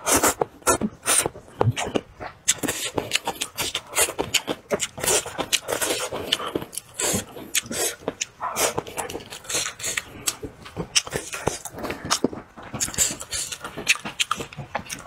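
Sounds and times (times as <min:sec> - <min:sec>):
person chewing and lip-smacking: 0:00.0 - 0:15.0.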